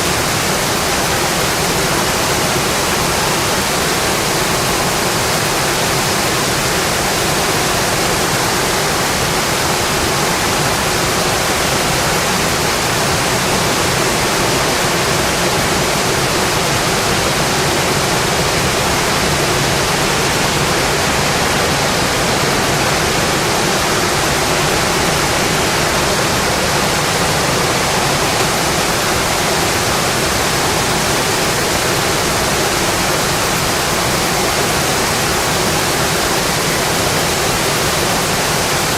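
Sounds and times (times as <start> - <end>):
rain on a windowpane: 0.0 - 38.9.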